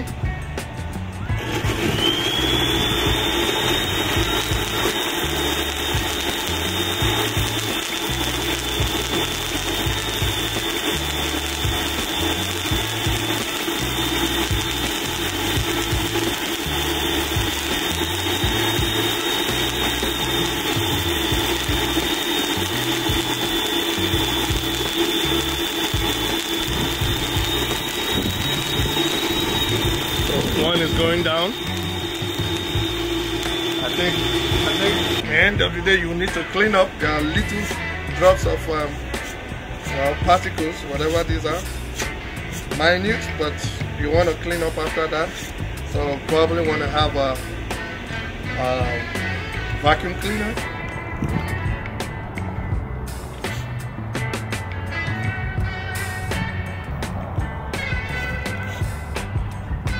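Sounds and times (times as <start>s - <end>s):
high whine: 0.0s - 59.9s
music with bass line: 0.0s - 59.9s
cold spark machines hissing: 1.0s - 50.7s.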